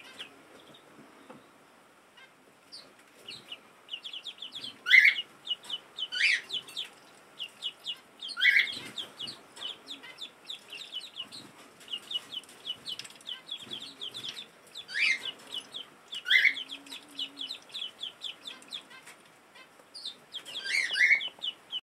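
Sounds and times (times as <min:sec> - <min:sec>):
ducklings peeping: 0:00.0 - 0:01.4, 0:02.2 - 0:21.8.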